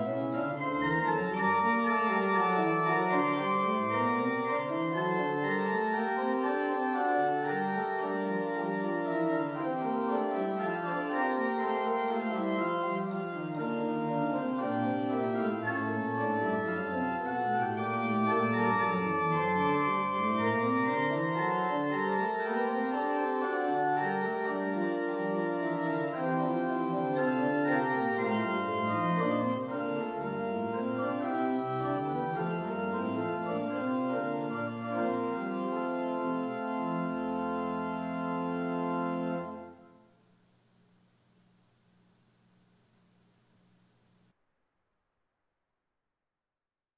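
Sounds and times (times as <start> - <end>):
church organ playing: 0.0 - 40.0.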